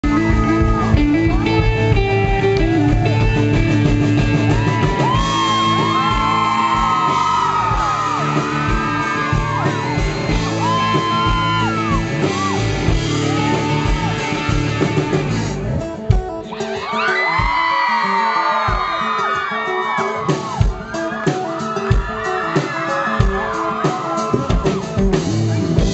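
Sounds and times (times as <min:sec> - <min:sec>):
live country-rock band playing: 0:00.0 - 0:25.9
crowd yelling and whooping: 0:02.4 - 0:03.6, 0:04.2 - 0:15.6, 0:16.4 - 0:25.5.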